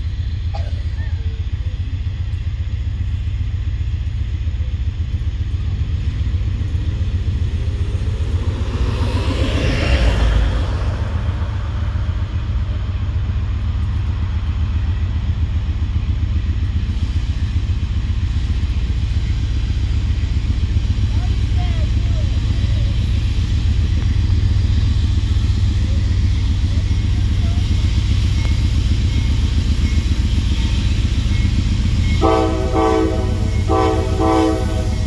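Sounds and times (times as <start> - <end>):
distant train locomotive rumble: 0.0 - 35.0
road traffic noise: 0.0 - 35.0.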